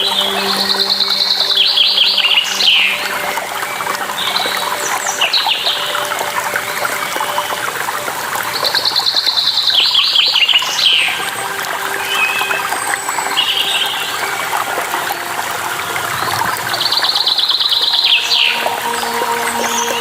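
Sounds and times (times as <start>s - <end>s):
running water: 0.0s - 20.0s
songbirds singing: 0.0s - 20.0s.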